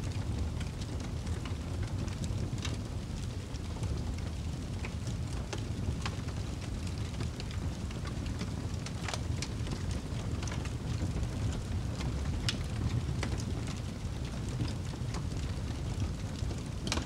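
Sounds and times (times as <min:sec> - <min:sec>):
fire crackles and pops: 0:00.0 - 0:17.0
fire rumbling: 0:00.0 - 0:17.0.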